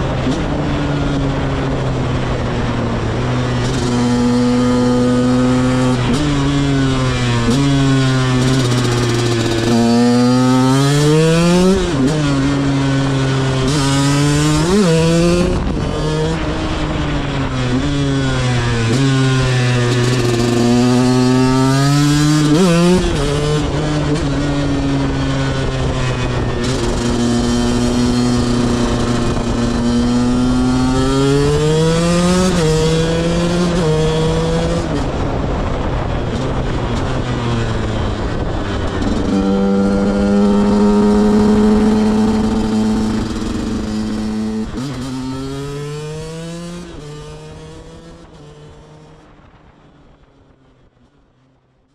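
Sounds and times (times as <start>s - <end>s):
two-stroke motorcycle engine revving: 0.0s - 49.3s.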